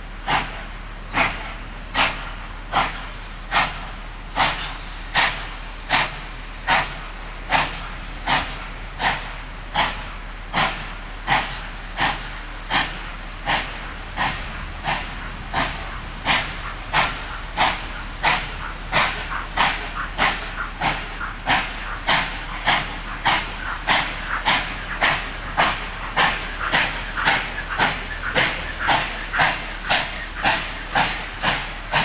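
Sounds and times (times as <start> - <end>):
steam locomotive chuffing: 0.0 - 32.0.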